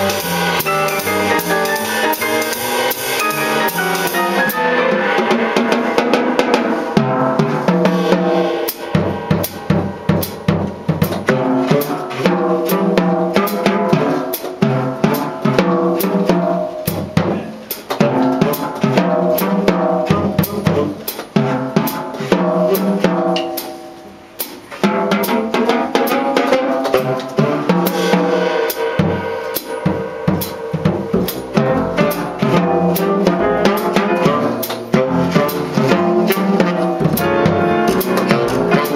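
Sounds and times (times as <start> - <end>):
jazz band playing: 0.0 - 38.9
jazz drum kit played busily: 0.0 - 38.9.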